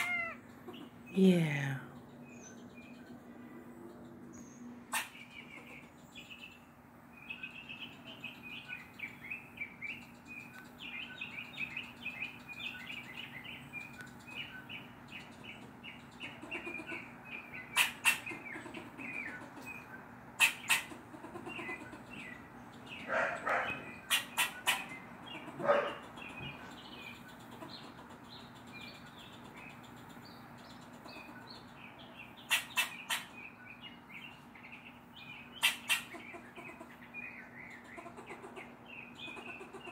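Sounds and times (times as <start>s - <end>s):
squirrel barking alarm calls: 0.0s - 3.2s, 4.0s - 39.9s.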